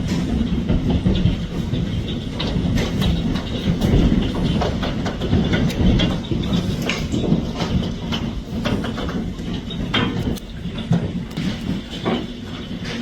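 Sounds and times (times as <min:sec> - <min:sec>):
hail clattering: 0:00.0 - 0:13.0.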